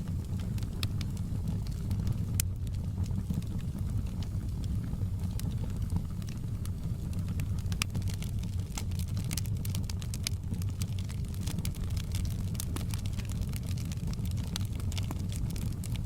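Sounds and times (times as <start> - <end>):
logs crackling and popping: 0.0 - 16.0
wood fire burning: 0.0 - 16.0.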